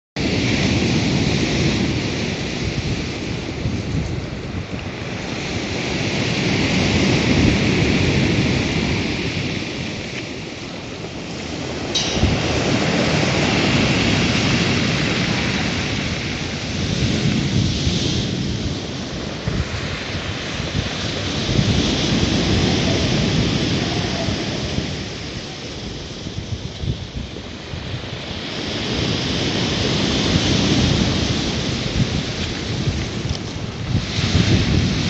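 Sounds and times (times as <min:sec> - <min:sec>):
waves breaking: 0:00.2 - 0:35.0.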